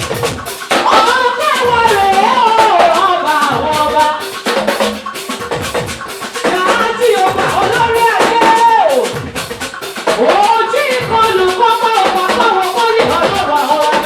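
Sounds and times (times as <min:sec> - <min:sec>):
drums: 0:00.0 - 0:14.0
gospel band music: 0:00.0 - 0:14.0
shaker percussion: 0:00.0 - 0:14.0.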